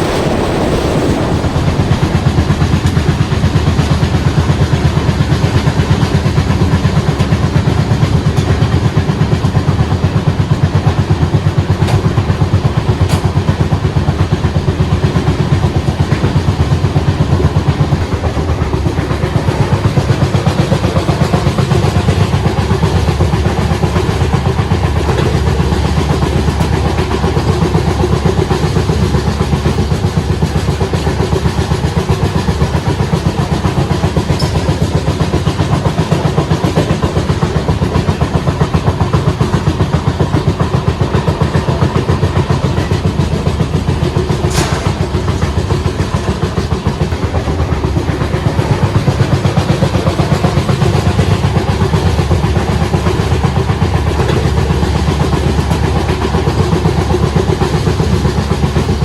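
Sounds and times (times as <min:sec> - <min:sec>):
passenger train rumbling: 0:00.0 - 0:59.0.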